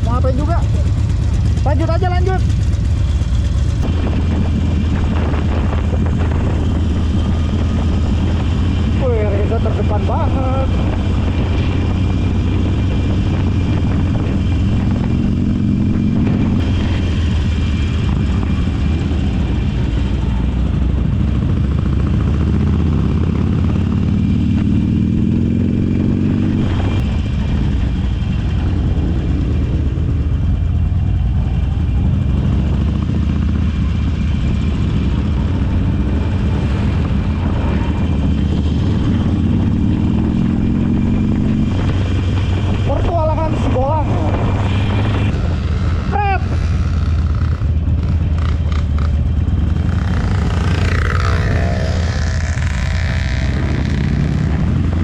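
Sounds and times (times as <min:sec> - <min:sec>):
motorcycle engine accelerating: 0:00.0 - 0:55.0
wind and road rush: 0:00.0 - 0:55.0.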